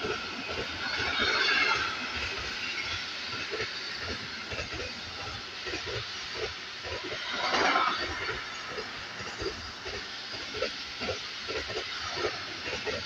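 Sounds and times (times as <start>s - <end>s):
freight train wheels on rail: 0.0s - 13.0s.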